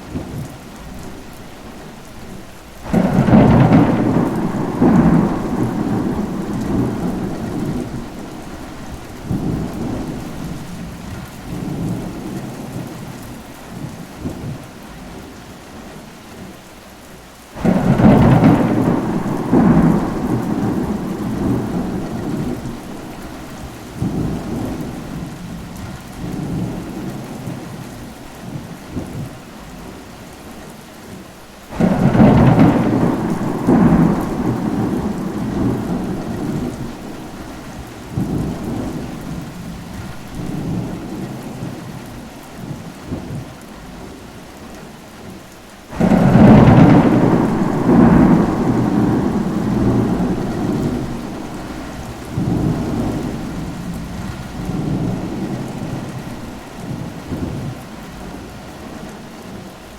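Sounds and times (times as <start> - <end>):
steady rain: 0.0 - 59.9
thunder claps rumbling: 2.2 - 14.7, 17.6 - 29.4, 31.7 - 43.6, 45.9 - 58.6.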